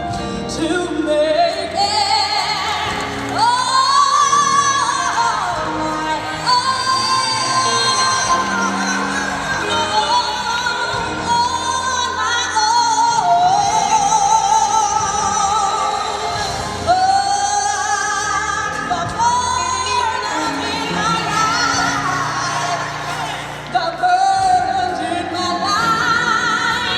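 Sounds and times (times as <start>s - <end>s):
gospel choir singing: 0.9s - 26.9s.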